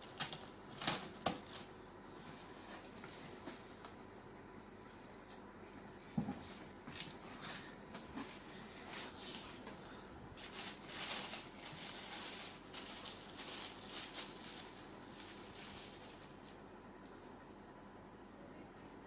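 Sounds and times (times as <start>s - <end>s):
rustling and handling noise: 0.0s - 4.0s, 4.8s - 16.7s.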